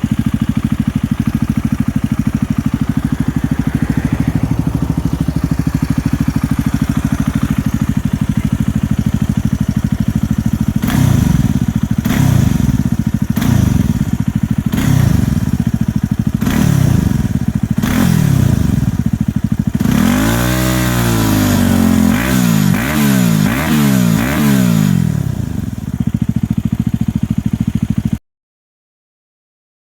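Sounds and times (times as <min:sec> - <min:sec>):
motorcycle engine idling and revving: 0:00.0 - 0:28.2.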